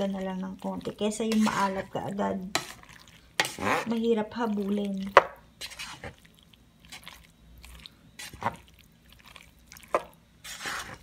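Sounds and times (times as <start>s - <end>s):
spoon stirring pasta in a pot: 0.0s - 11.0s.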